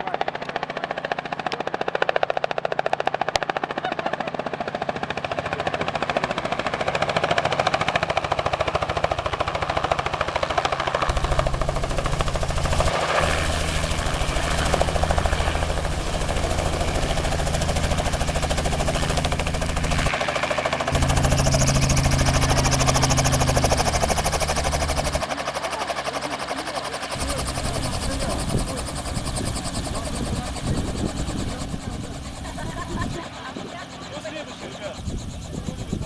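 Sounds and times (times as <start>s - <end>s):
helicopter rotor blades chopping: 0.0s - 36.0s.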